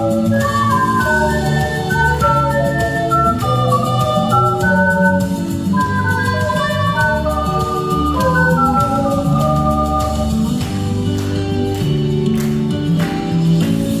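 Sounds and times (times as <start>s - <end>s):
ocarinas playing a melody: 0.0s - 12.2s
backing track with bass and percussion: 0.0s - 14.0s.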